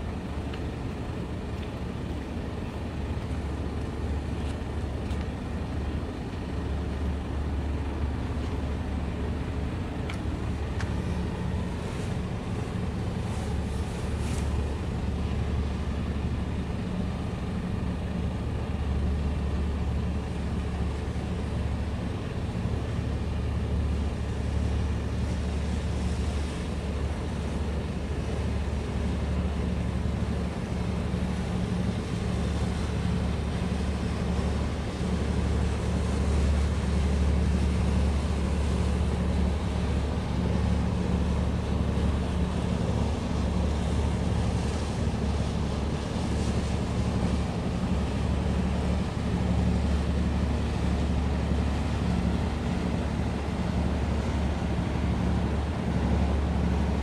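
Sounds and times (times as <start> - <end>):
ship diesel engines droning: 0.0 - 57.0.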